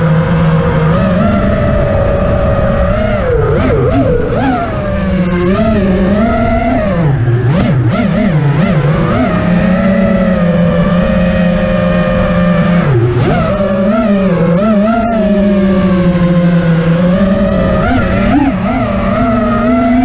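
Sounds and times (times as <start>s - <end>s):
quadcopter propellers whining: 0.0s - 20.0s.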